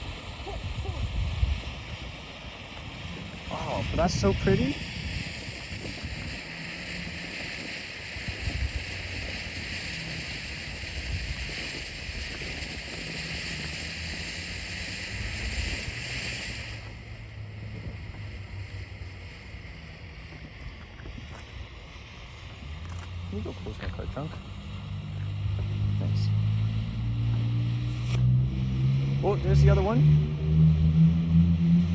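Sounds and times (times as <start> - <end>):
firework fountain hissing: 0.0 - 31.9.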